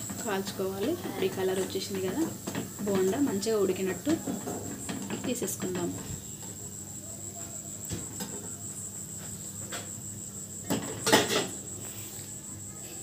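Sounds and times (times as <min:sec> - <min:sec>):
steady high-pitched whine: 0:00.0 - 0:13.0.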